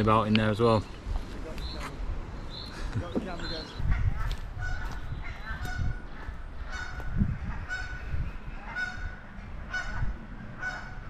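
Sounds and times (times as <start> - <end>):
geese honking: 1.5 - 11.0.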